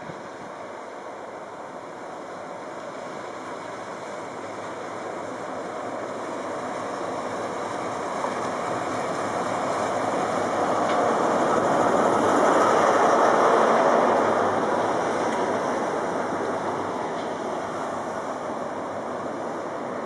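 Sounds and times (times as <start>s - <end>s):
diesel train engine and wheels: 0.0s - 20.0s.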